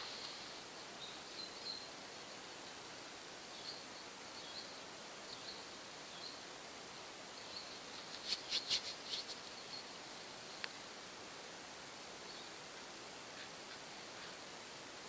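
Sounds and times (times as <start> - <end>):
small birds chirping: 0.0 - 10.9, 12.2 - 14.6
background hiss: 0.0 - 15.0.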